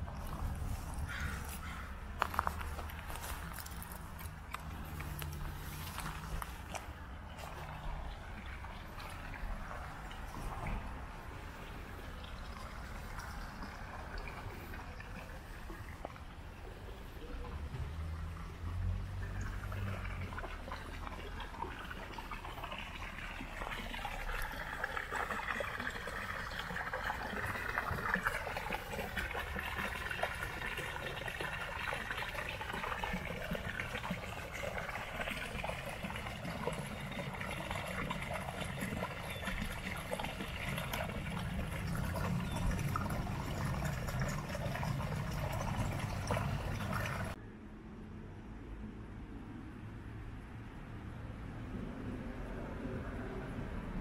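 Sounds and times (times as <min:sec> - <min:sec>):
water pouring into pond: 0:00.0 - 0:47.4.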